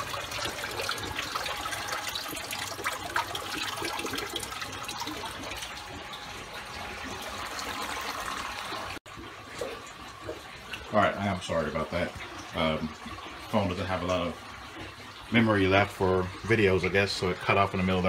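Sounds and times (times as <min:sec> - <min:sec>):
water rushing through pipes: 0:00.0 - 0:18.0.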